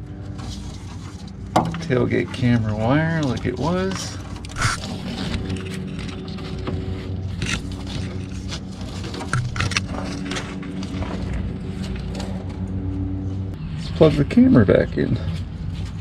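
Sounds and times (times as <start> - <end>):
engine hum: 0.0 - 16.0.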